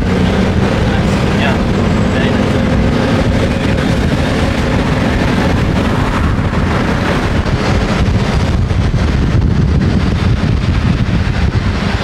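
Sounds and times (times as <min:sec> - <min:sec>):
moving vehicle road noise: 0:00.0 - 0:12.0
wind buffeting microphone: 0:00.0 - 0:12.0.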